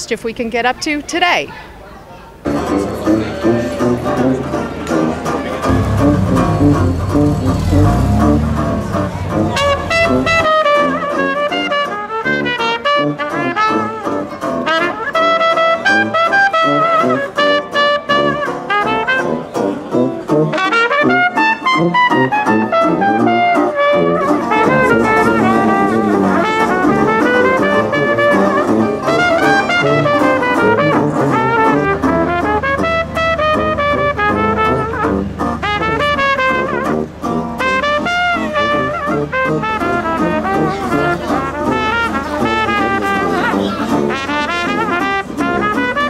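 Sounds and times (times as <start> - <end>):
resonator guitar: 2.4 - 46.0
trumpet playing tune: 5.7 - 46.0.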